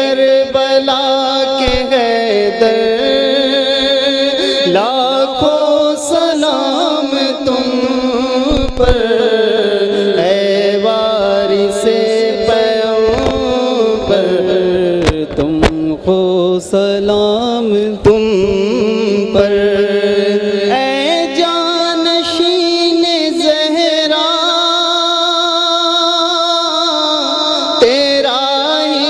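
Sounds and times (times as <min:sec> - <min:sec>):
man singing devotional chant: 0:00.0 - 0:29.0.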